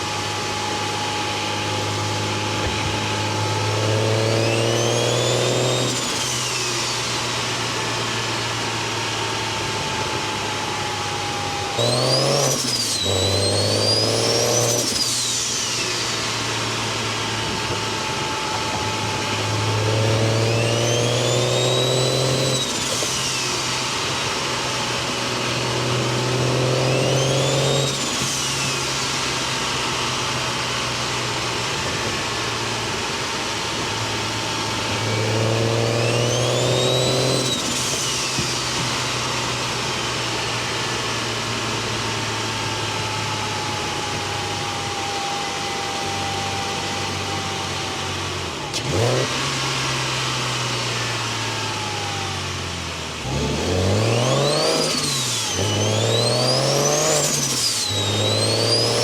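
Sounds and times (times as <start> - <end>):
car engine revving: 0.0 - 10.2, 11.4 - 44.8, 45.5 - 59.0
high turbo whistle: 0.0 - 52.6, 53.6 - 59.0.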